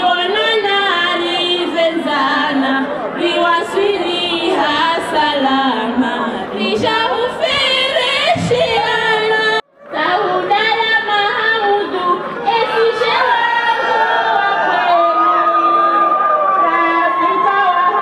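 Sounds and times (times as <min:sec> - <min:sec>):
women singing into a microphone: 0:00.0 - 0:18.0.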